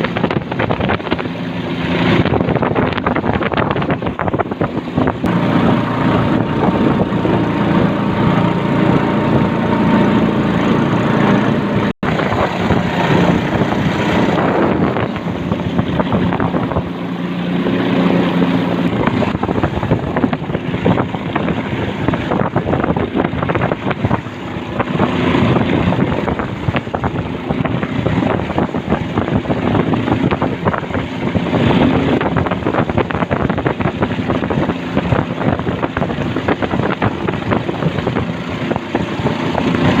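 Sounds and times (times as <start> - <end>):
small boat engine running: 0.0 - 40.0
wind buffeting microphone: 0.0 - 40.0.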